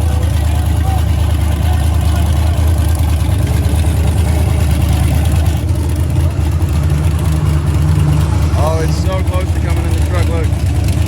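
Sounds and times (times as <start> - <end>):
higher engine note: 0.0 - 11.0
truck engine droning: 0.0 - 11.0.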